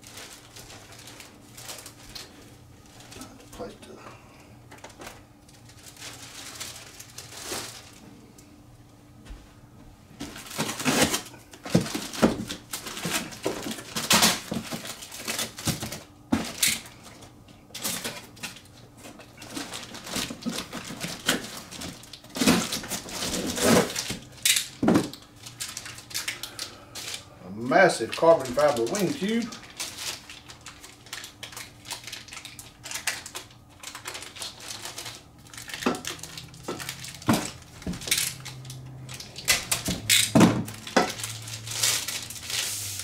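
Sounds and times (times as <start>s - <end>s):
packaging rustling and crinkling: 0.0s - 3.8s, 4.7s - 8.2s, 10.2s - 43.0s.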